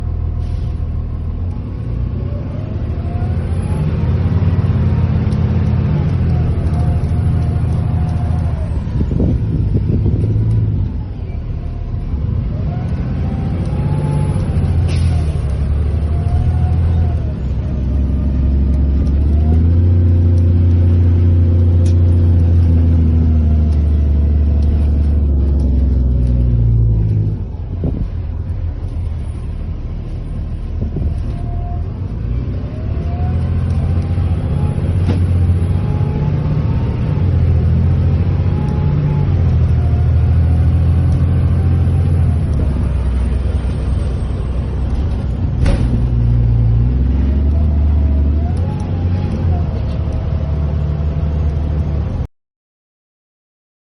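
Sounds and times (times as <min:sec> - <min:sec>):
bus diesel engine droning: 0:00.0 - 0:52.3.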